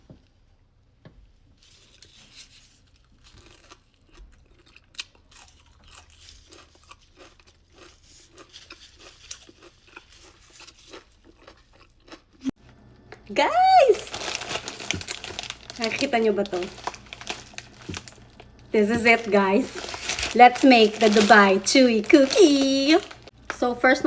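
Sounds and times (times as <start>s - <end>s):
person chewing crunchy food: 1.7s - 12.6s, 14.1s - 23.5s.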